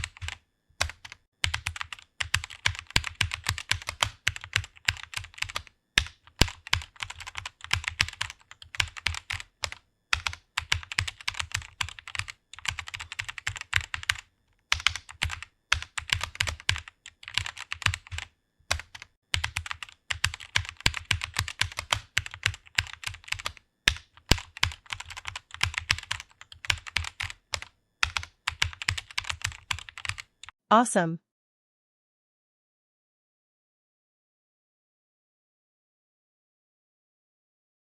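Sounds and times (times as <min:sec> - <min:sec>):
fast typing on keyboard: 0:00.0 - 0:30.6.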